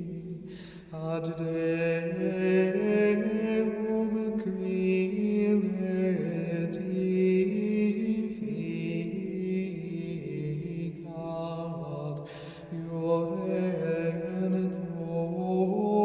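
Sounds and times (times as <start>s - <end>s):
slow chanted vocal music: 0.0s - 16.0s.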